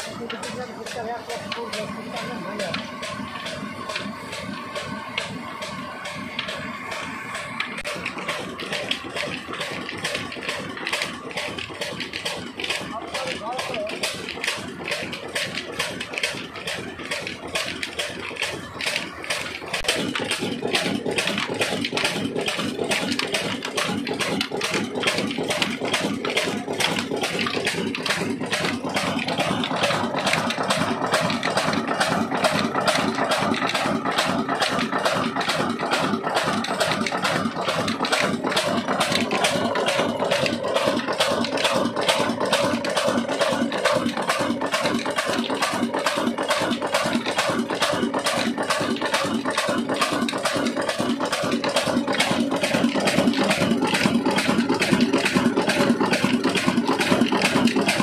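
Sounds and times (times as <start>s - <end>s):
stationary engine running: 0.0s - 58.0s.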